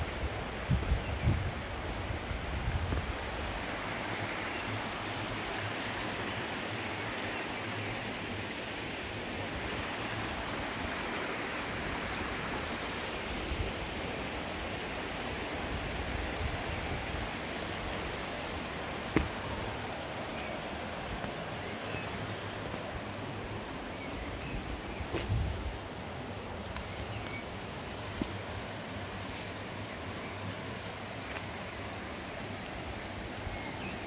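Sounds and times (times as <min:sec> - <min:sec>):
stream flowing over stones: 0:00.0 - 0:34.0.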